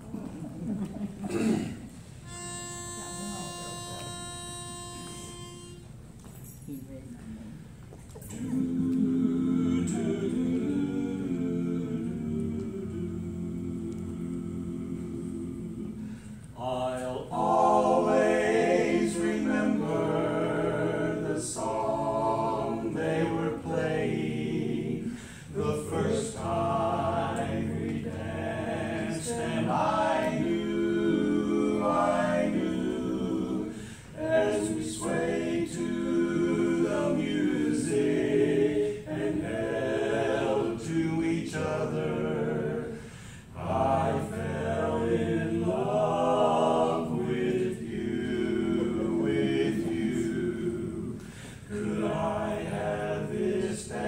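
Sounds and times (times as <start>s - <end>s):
men singing a cappella harmony: 8.3s - 54.0s.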